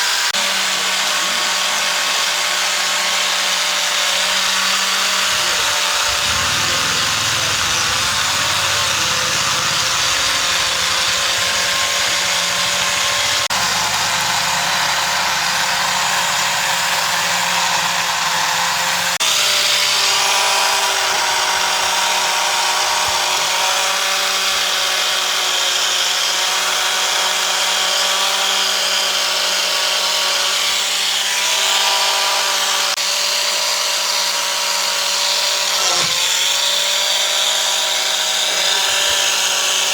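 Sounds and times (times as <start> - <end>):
power tool running on wood: 0.0 - 39.9.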